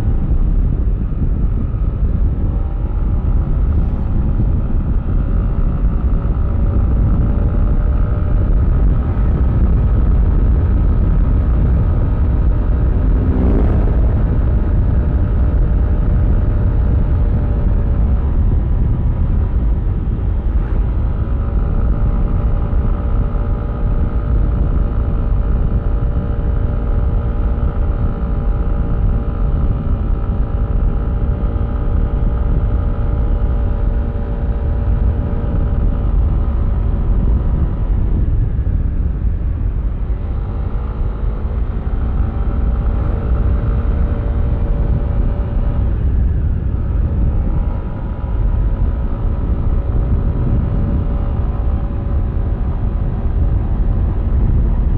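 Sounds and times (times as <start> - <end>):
wind and road rumble: 0.0 - 54.9.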